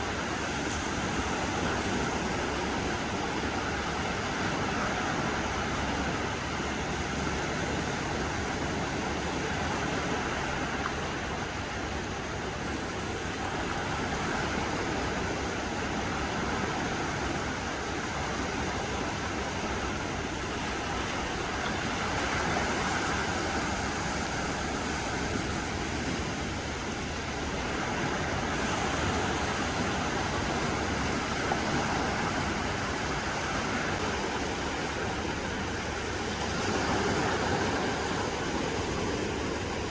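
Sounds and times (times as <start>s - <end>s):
sea waves washing onto beach: 0.0s - 39.9s
wind blowing: 0.0s - 39.9s.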